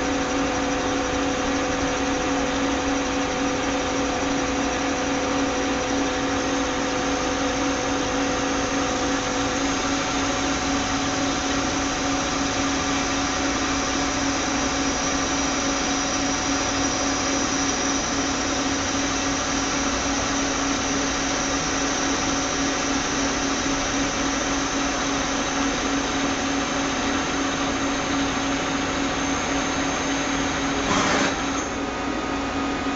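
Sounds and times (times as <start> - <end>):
cnc machine whirring: 0.0 - 32.9.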